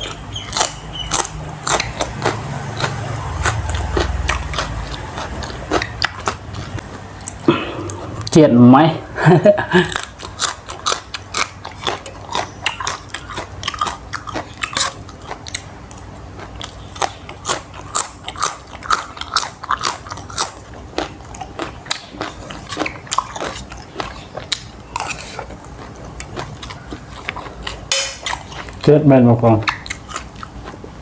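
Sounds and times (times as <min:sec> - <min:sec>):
person chewing crunchy food: 0:00.0 - 0:08.4, 0:09.0 - 0:29.0, 0:29.6 - 0:31.0.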